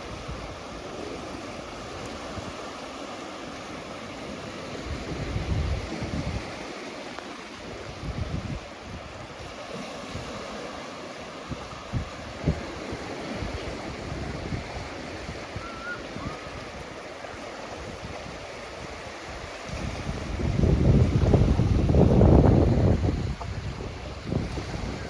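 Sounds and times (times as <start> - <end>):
ocean surf on beach: 0.0 - 25.0
wind buffeting microphone: 3.8 - 25.0.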